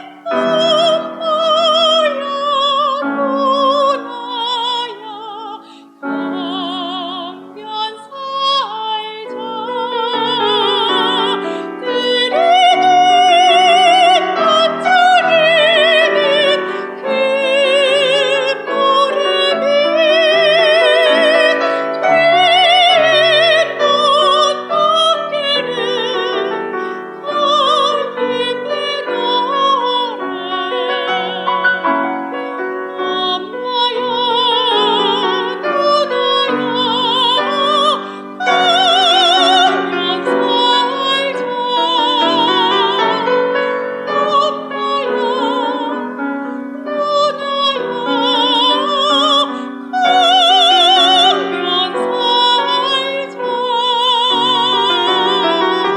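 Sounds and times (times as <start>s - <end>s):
piano accompaniment: 0.0s - 55.9s
soprano singing classical: 0.0s - 55.9s.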